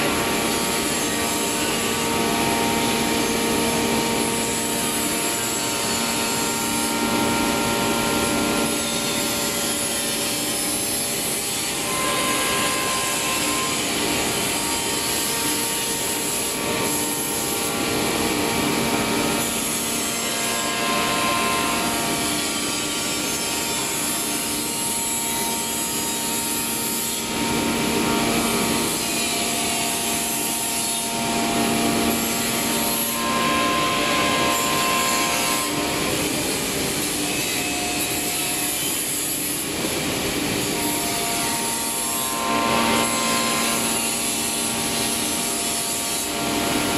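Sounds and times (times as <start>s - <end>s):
router bit cutting wood: 0.0s - 46.9s
wood router spindle whine: 0.0s - 46.9s.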